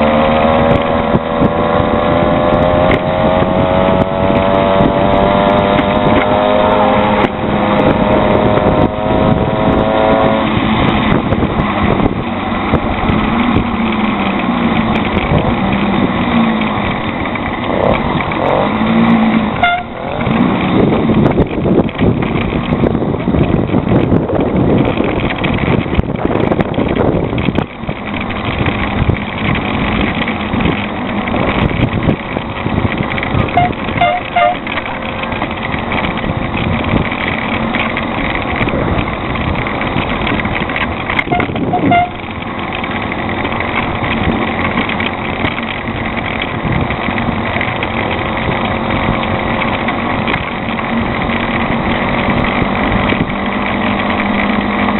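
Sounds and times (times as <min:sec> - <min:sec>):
rush of riding noise: 0:00.0 - 0:54.9
small bicycle engine running: 0:00.0 - 0:54.9.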